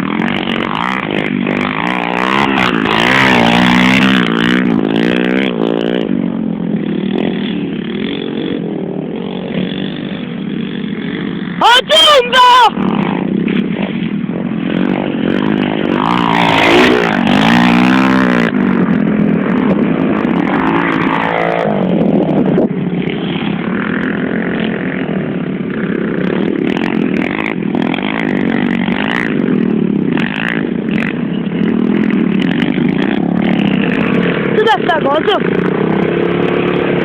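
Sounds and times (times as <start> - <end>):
pit bike engines revving: 0.0 - 37.0.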